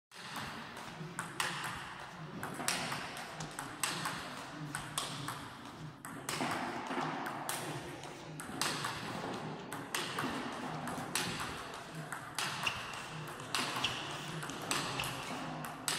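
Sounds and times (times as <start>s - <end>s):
table tennis ball hit by bat: 0.2s - 4.2s, 4.9s - 7.8s, 8.4s - 15.9s.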